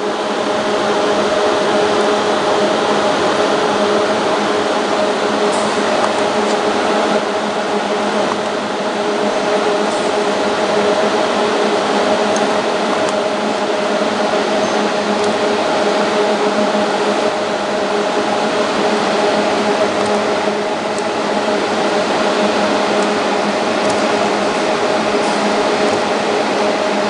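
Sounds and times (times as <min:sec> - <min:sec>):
labelling machine whirring: 0:00.0 - 0:27.0.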